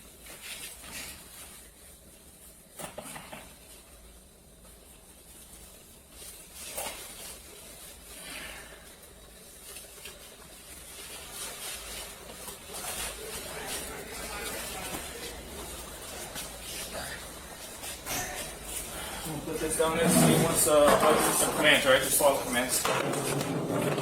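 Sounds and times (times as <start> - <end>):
faint rustling: 3.4 - 24.0
steady high hiss: 3.5 - 23.0.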